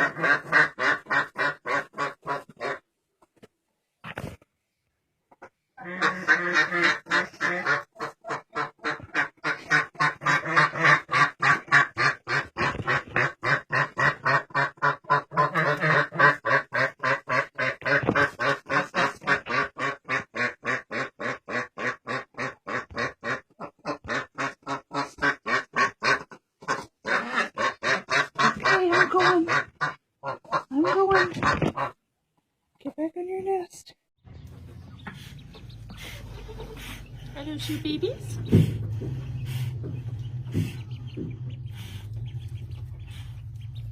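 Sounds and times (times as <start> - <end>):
duck quacking: 0.0 - 2.8, 5.8 - 32.0, 34.8 - 43.9.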